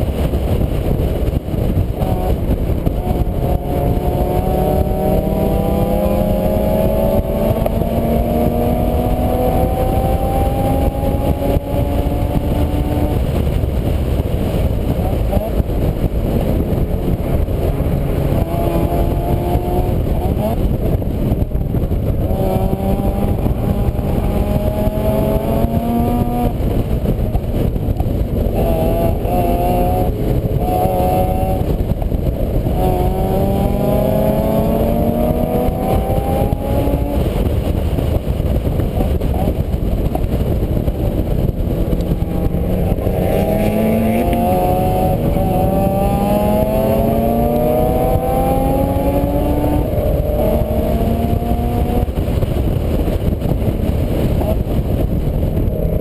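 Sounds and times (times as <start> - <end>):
dense low rumble: 0.0 - 56.0
vehicle engine accelerating: 0.0 - 56.0.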